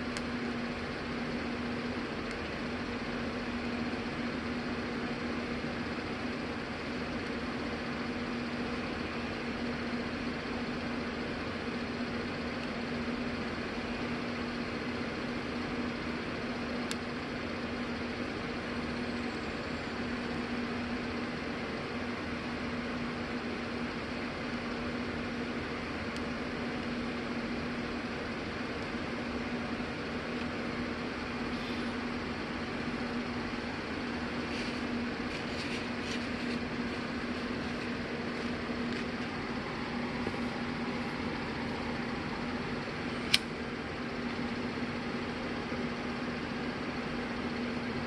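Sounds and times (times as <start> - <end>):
steady mechanical hum: 0.0 - 48.0.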